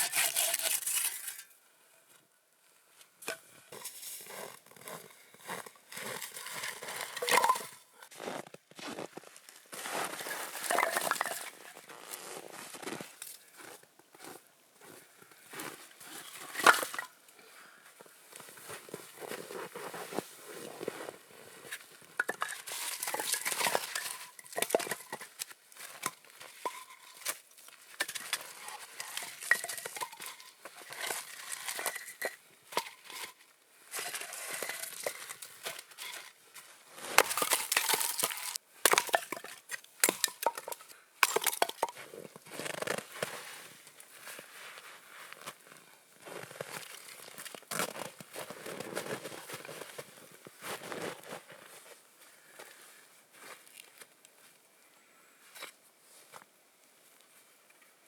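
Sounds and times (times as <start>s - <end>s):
crunching and crackling: 3.7s - 17.2s, 18.4s - 51.8s.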